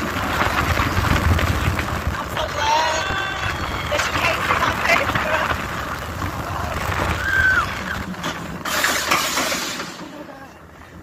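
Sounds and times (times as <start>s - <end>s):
roller coaster rattling on track: 0.0s - 11.0s.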